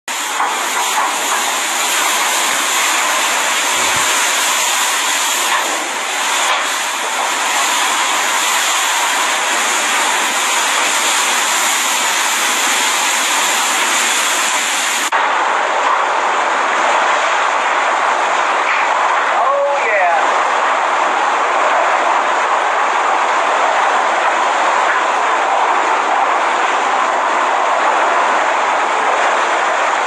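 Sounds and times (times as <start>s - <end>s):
driving rain: 0.1s - 30.0s
hurricane wind: 0.1s - 30.0s.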